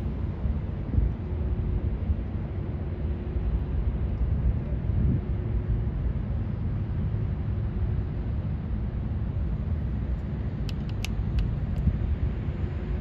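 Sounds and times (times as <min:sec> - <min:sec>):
ship engine low rumble: 0:00.0 - 0:13.0
wind buffeting microphone: 0:00.0 - 0:13.0.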